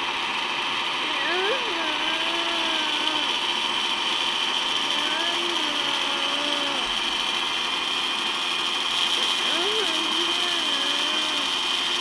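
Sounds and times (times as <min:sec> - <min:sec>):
food processor motor whirring: 0:00.0 - 0:12.0.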